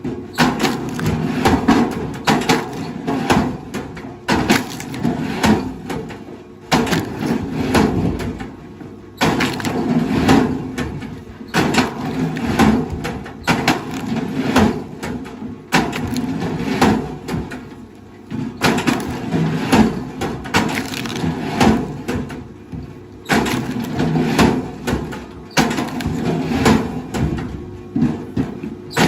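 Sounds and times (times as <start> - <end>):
wood cracking and splintering: 0.3 - 8.6, 9.2 - 22.4, 23.3 - 27.2.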